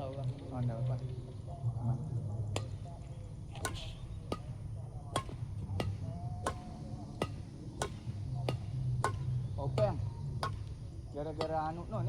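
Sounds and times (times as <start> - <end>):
rackets hitting shuttlecock: 2.3 - 12.0.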